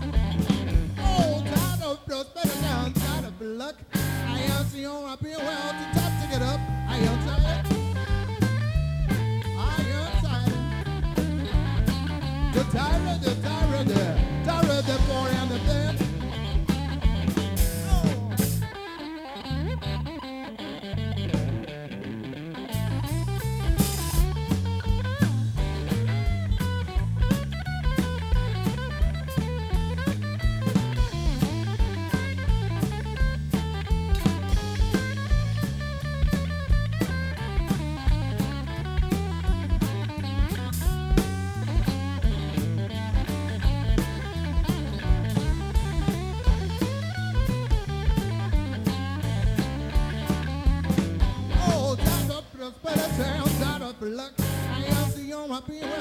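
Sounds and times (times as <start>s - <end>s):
drum kit beat: 0.0s - 4.8s, 5.8s - 18.9s, 22.7s - 55.3s
bass guitar: 0.0s - 56.0s
electric guitar: 0.0s - 56.0s.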